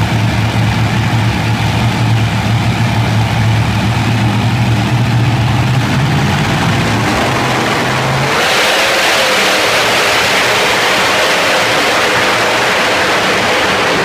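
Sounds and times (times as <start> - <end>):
tractor engine at full throttle: 0.0 - 14.0.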